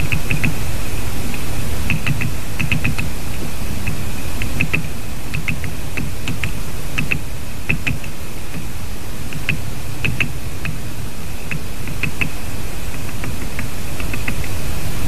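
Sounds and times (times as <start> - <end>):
woodpecker pecking at wood: 0.0 - 0.7, 1.3 - 14.6
faint constant high tone: 0.0 - 15.0
steady low noise: 0.0 - 15.0.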